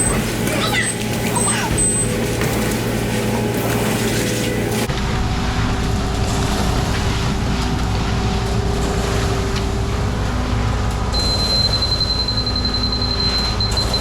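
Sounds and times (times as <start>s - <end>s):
diesel engine running under load: 0.0s - 14.0s
thin high steady whine: 0.0s - 14.0s.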